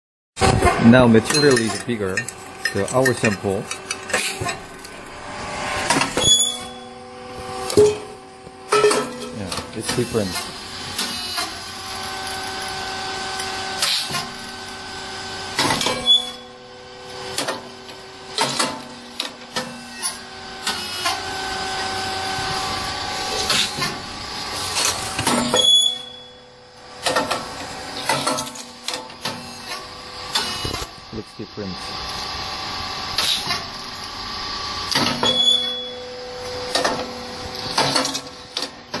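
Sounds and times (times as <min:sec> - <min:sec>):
machine hum: 0:00.4 - 0:39.0.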